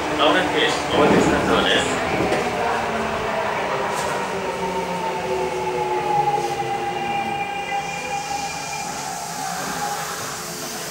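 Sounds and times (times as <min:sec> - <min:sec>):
train inverter whine: 0:00.0 - 0:10.9
train wheel and running noise: 0:00.0 - 0:10.9.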